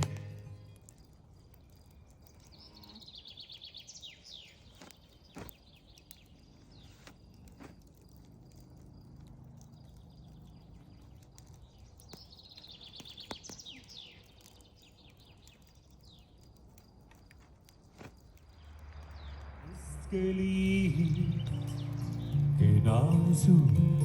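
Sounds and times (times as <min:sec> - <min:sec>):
faint birdsong chirps: 0:00.0 - 0:24.0
low steady background: 0:00.0 - 0:24.0.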